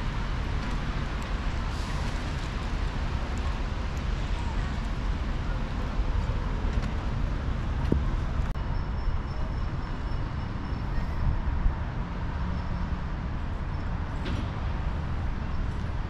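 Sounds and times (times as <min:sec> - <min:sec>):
city background rumble: 0:00.0 - 0:16.0.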